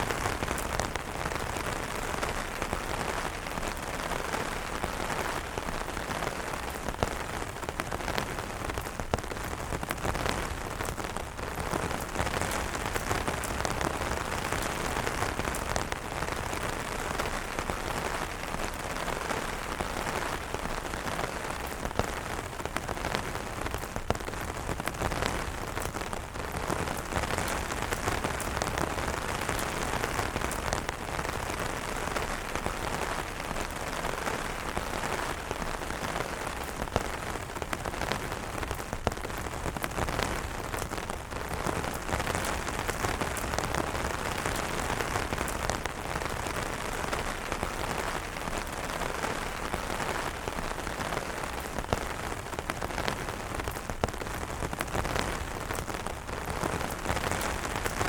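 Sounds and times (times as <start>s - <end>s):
rain falling on umbrellas: 0.0s - 58.0s.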